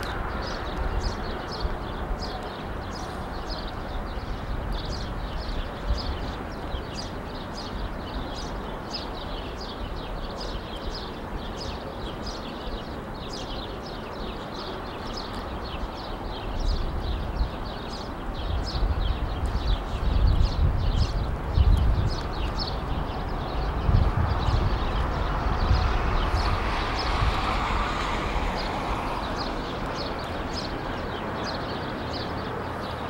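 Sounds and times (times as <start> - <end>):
small birds chirping: 0.0 - 33.0
steady background noise: 0.0 - 33.0.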